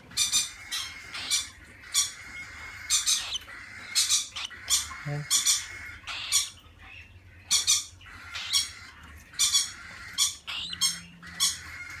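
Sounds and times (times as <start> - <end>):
cockatiels squawking: 0.1 - 12.0.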